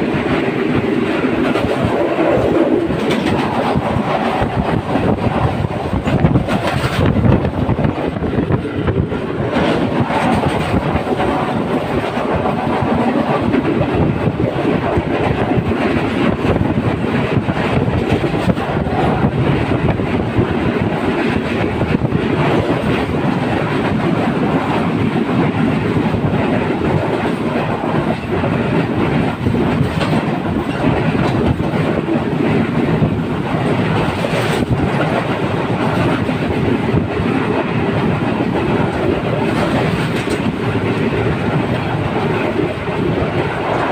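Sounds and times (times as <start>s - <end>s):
wheels clacking over rail joints: 0.0s - 16.6s, 17.2s - 43.9s
train wheels rumbling on rails: 0.0s - 43.9s.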